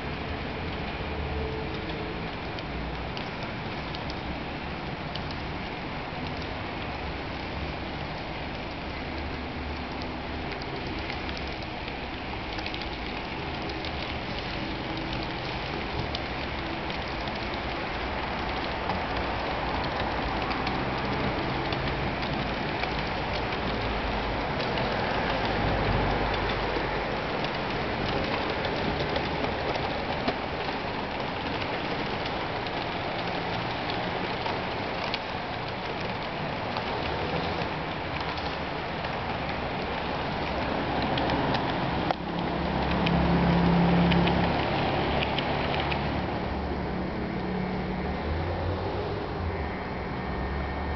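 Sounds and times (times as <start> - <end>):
wheels clicking on track: 0.0 - 50.9.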